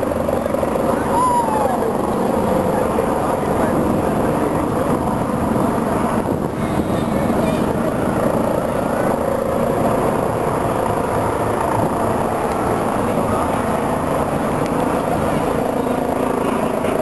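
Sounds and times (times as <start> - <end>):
distant helicopters flying over: 0.0 - 17.0.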